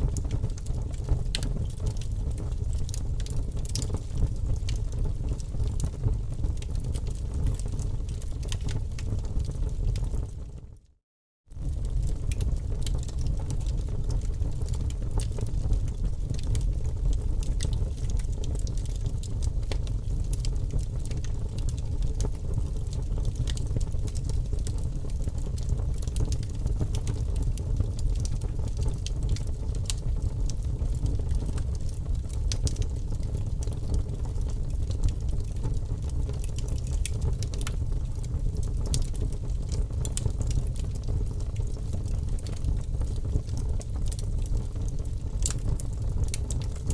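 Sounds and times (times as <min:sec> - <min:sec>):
faint crackles and ticks: 0:00.0 - 0:46.9.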